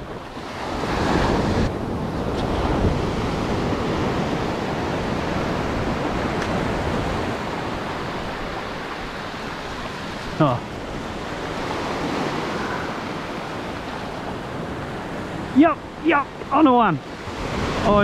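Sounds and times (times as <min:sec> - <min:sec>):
ocean surf breaking on sand: 0:00.0 - 0:18.0.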